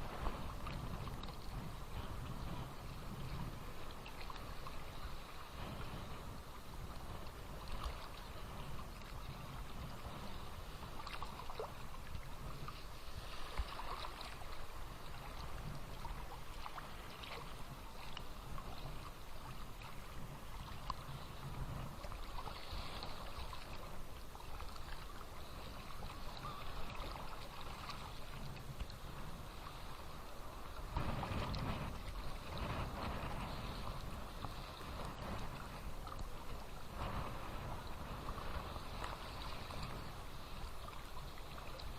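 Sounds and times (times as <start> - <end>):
small waves lapping at shore: 0.0 - 41.9.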